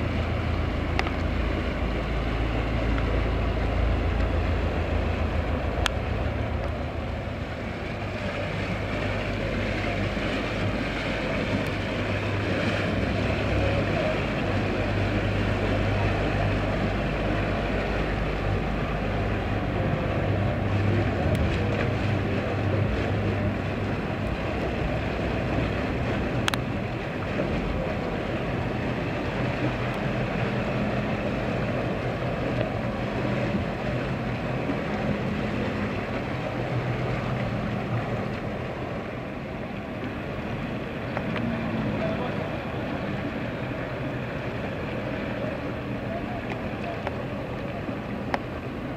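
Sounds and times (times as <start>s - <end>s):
churning wake water: 0.0s - 48.9s
outboard motor engines humming: 0.0s - 48.9s.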